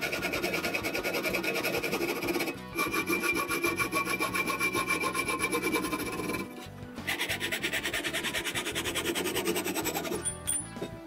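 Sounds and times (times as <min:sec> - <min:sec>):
hacksaw cutting metal: 0:00.0 - 0:11.0.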